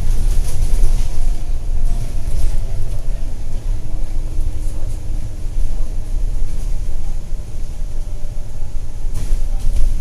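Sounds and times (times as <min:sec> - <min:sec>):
bus engine rumble: 0:00.0 - 0:10.0
road noise: 0:00.0 - 0:10.0.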